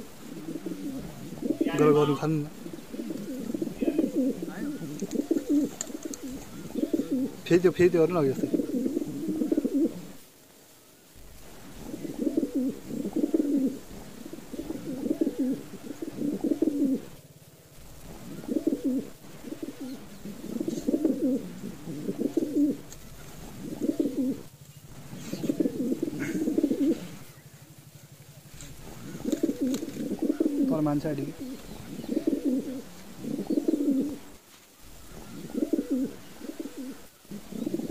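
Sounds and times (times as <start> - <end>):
pigeons cooing: 0.0 - 10.2, 11.1 - 37.9.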